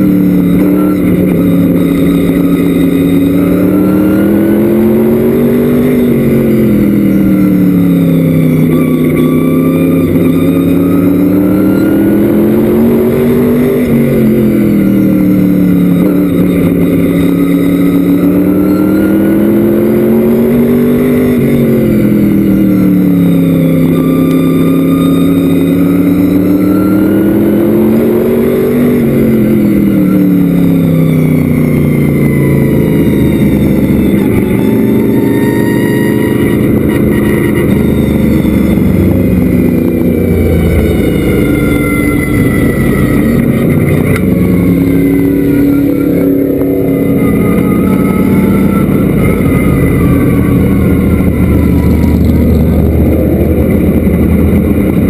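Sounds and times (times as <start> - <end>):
race car engine at speed: 0.0 - 55.0.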